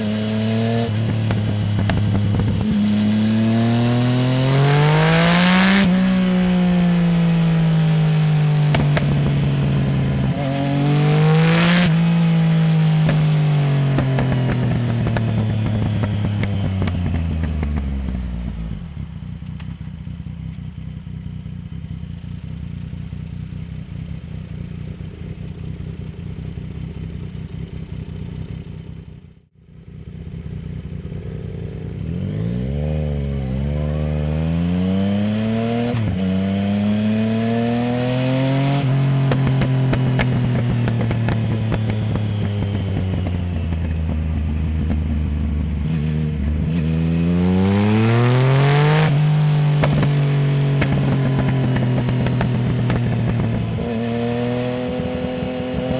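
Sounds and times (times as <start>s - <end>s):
motorcycle engine idling and revving: 0.0s - 55.9s.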